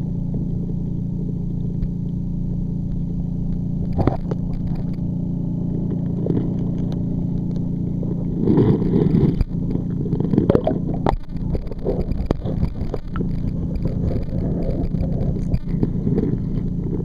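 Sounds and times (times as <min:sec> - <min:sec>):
low underwater hum: 0:00.0 - 0:17.0.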